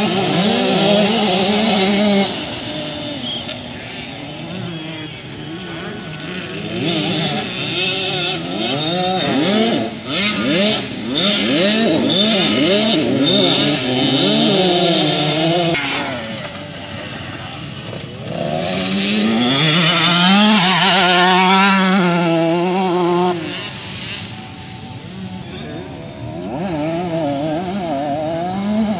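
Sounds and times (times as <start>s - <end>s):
motocross bikes revving: 0.0s - 28.9s
motorbike passing close: 0.0s - 28.9s.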